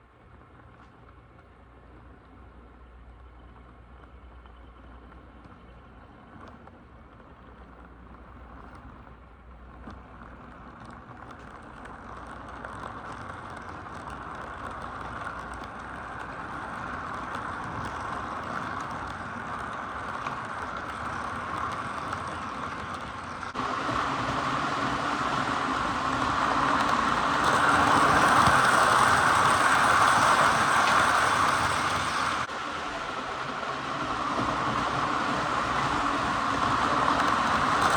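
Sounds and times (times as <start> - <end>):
model train running on track: 0.0 - 37.9.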